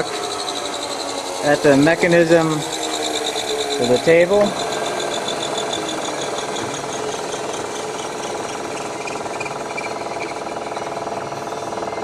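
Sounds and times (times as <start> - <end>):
faint pulsing high whines: 0.0 - 12.0
fast fine rattle: 0.0 - 12.0
grinder machine whirring: 0.0 - 12.0.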